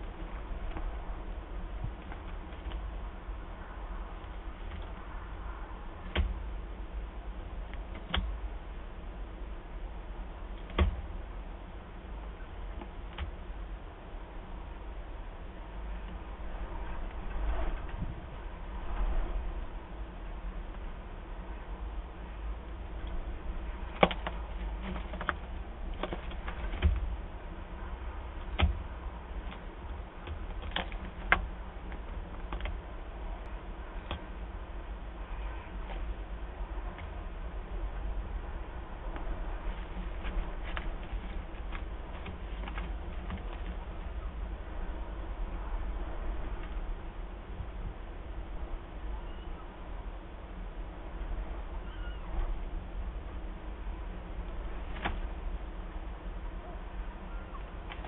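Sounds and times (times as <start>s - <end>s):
steady low hum: 0.0s - 58.0s
steady low rumble: 0.0s - 58.0s.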